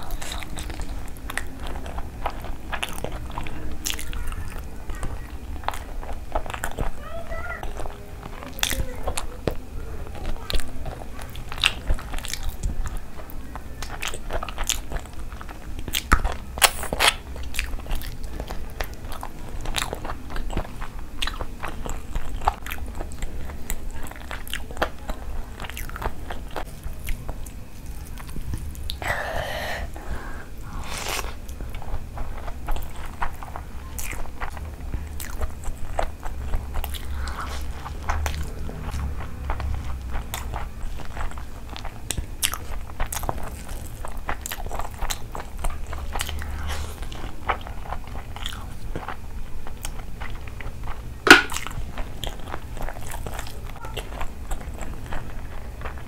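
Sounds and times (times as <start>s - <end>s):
chewing: 0.0s - 56.0s
crunchy bites: 7.6s - 29.1s, 30.6s - 56.0s.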